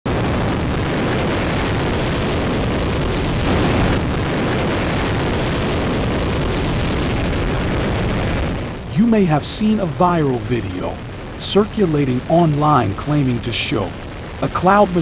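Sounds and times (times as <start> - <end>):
rocket engine roar: 0.1 - 15.0.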